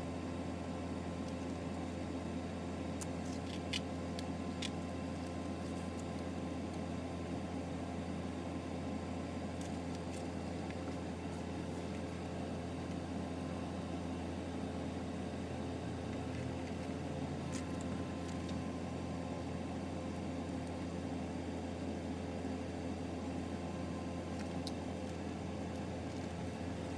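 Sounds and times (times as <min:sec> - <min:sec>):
low hum with hiss: 0:00.0 - 0:26.9.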